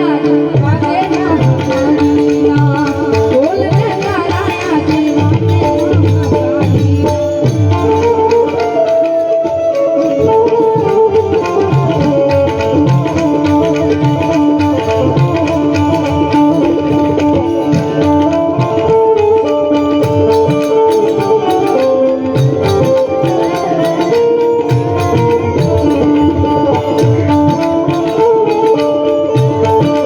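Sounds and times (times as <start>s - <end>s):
folk music over sound system: 0.0s - 30.0s
hand drum rhythm: 0.0s - 30.0s.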